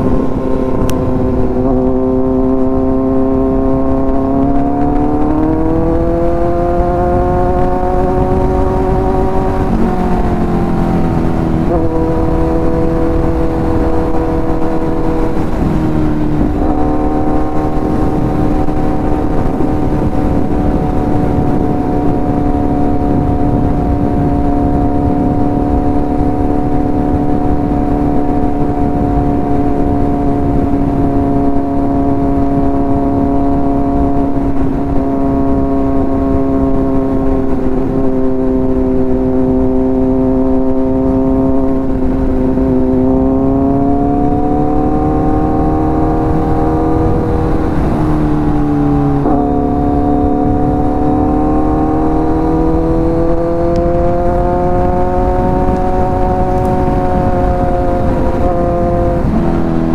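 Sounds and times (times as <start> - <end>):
motorcycle engine droning: 0.0 - 59.9
wind noise: 0.0 - 59.9.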